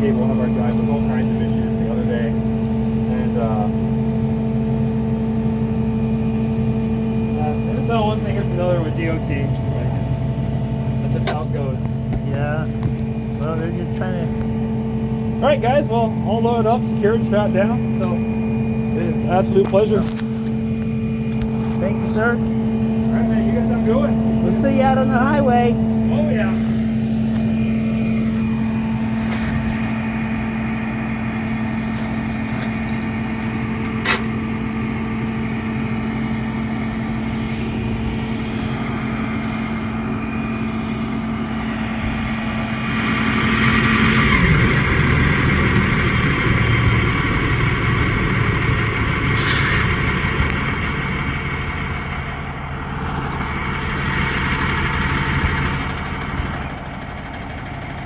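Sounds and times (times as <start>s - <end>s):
truck engine idling and pulling away: 0.0s - 58.0s.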